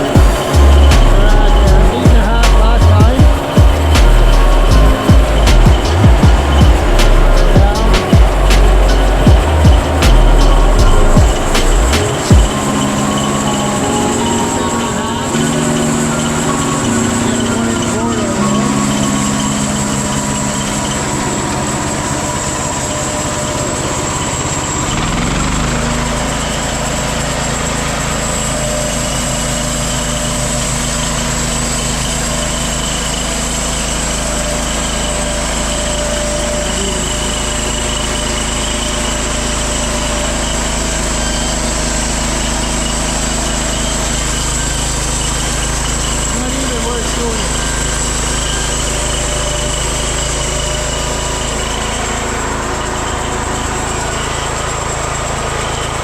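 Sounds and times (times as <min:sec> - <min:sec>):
small petrol engine running: 0:00.0 - 0:56.0.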